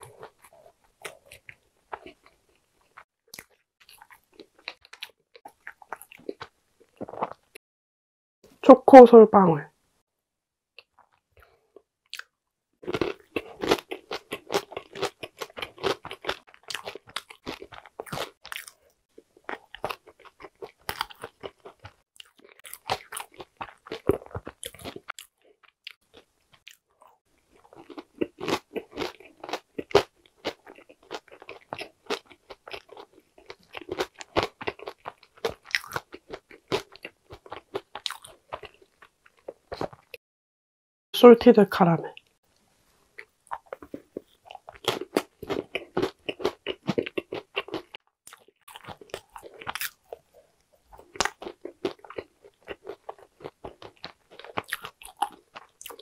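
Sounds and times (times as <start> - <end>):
crunching and chewing: 0.0 - 7.6, 10.8 - 40.2, 43.2 - 56.0.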